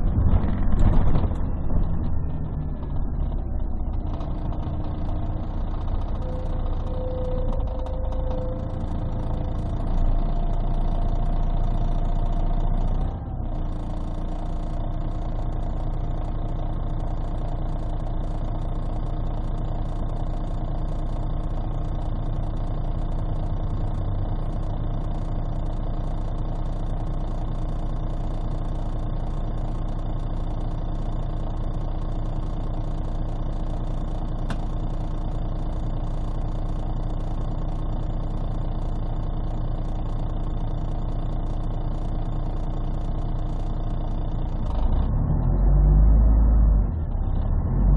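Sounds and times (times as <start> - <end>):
bus engine drone: 0.0 - 47.9
gearbox whine: 0.0 - 47.9.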